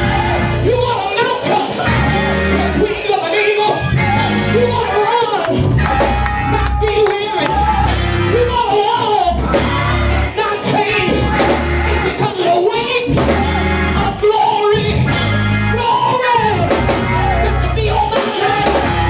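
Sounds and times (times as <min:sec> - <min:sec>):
heavy bass notes: 0:00.0 - 0:01.1, 0:01.8 - 0:03.0, 0:03.8 - 0:12.3, 0:12.9 - 0:19.0
gospel band playing: 0:00.0 - 0:19.0
person singing: 0:00.0 - 0:19.0.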